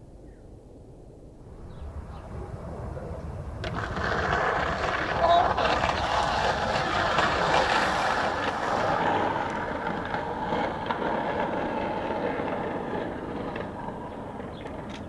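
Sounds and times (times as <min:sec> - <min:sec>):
skateboard wheels rolling: 0:01.4 - 0:15.0.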